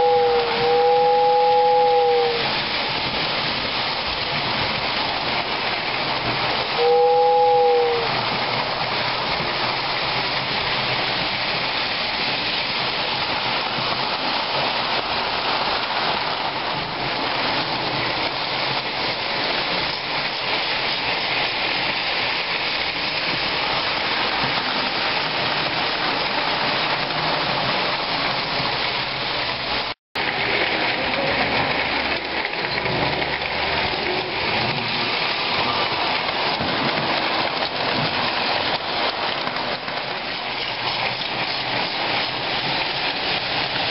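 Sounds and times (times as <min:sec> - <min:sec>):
toy trains rolling on metal track: 0:00.0 - 0:43.9.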